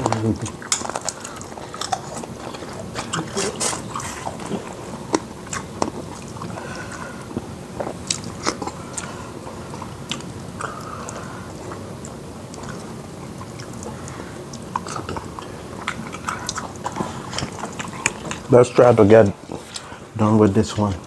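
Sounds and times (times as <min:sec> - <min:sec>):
people chewing: 0:00.0 - 0:21.0.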